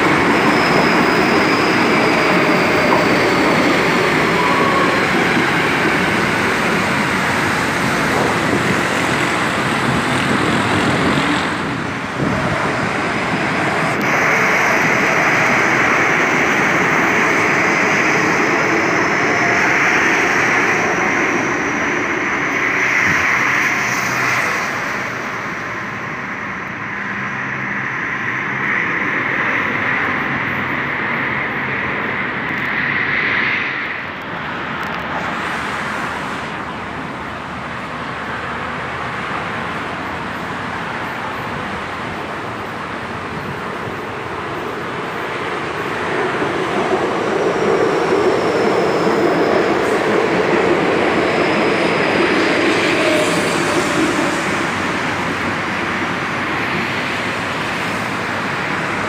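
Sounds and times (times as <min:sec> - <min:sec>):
road traffic rushing: 0:00.0 - 0:59.0.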